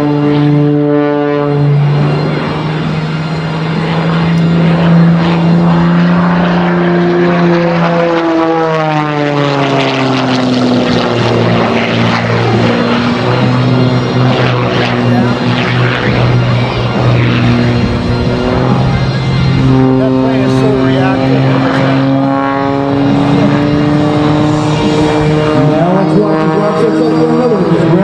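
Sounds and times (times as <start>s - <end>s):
airplane engine and propeller: 0.0s - 28.0s.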